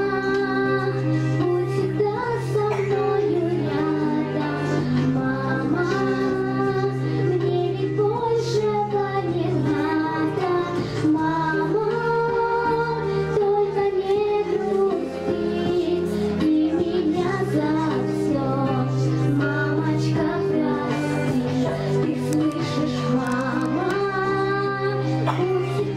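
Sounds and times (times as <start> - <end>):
girl singing into a microphone: 0.0 - 25.9
instrumental accompaniment: 0.0 - 25.9.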